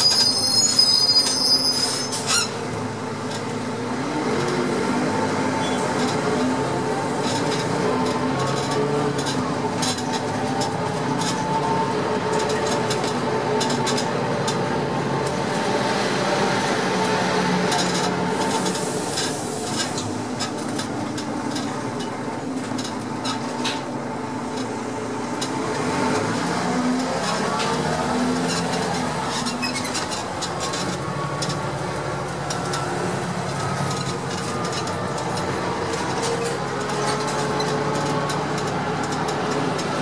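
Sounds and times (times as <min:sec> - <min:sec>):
bus drivetrain droning with whine: 0:00.0 - 0:40.0
bus fittings rattling and clicking: 0:05.6 - 0:15.7, 0:16.6 - 0:40.0.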